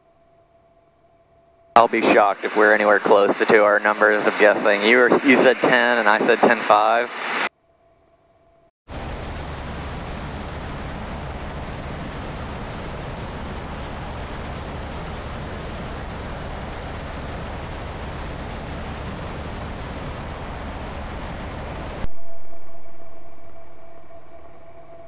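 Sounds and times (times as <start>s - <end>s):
airplane engine and propeller drone: 1.8s - 7.5s, 8.9s - 25.0s.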